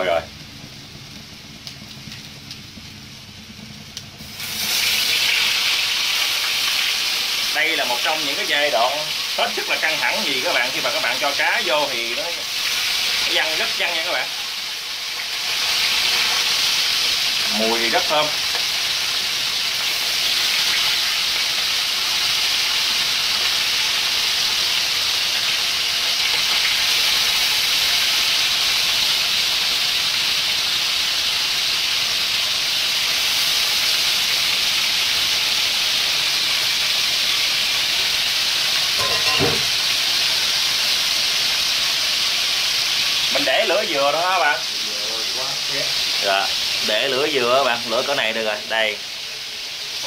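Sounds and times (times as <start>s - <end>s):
fish sizzling in hot oil: 0.0s - 50.0s.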